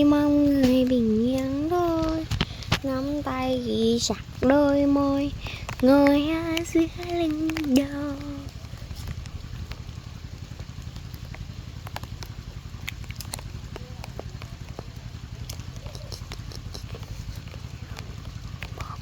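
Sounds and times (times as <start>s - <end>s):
light clicks and ticks: 0.0s - 10.0s, 10.6s - 19.0s
small engine humming: 0.0s - 19.0s.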